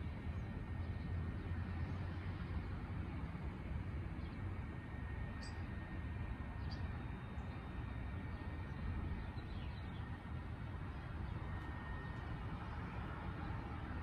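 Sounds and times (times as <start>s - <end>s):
low rumble of street ambience: 0.0s - 14.0s.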